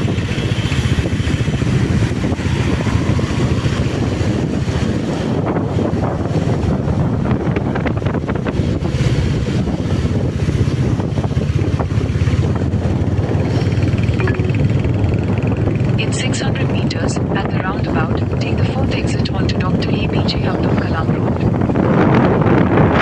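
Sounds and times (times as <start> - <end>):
road and vehicle noise: 0.0 - 23.0
wind buffeting microphone: 0.0 - 23.0.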